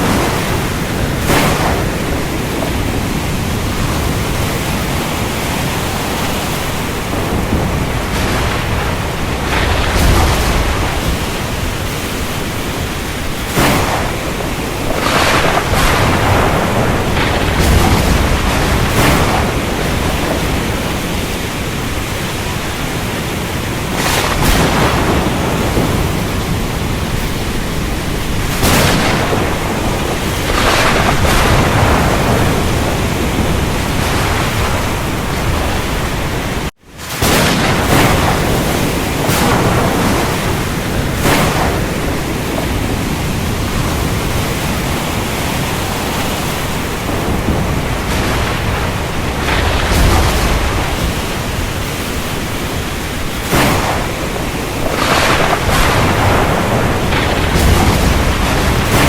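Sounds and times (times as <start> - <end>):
heavy rain: 0.0 - 59.0
thunder cracking: 0.0 - 59.0.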